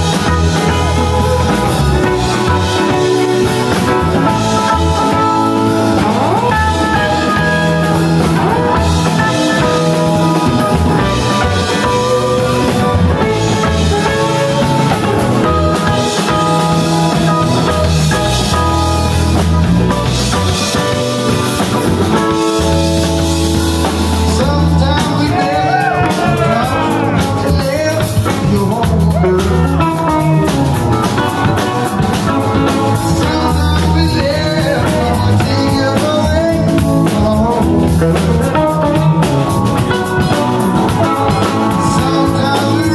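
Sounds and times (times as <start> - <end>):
live rock band playing: 0.0 - 42.9
sliding bending guitar lead: 0.0 - 42.9.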